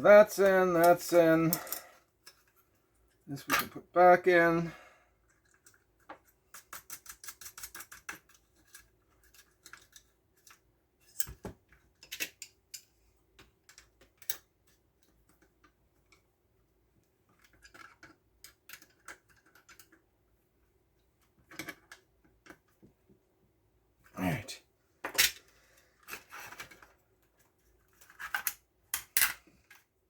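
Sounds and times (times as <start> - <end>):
light clicks and taps of handling parts: 0.7 - 3.8, 5.2 - 23.3, 25.0 - 30.0.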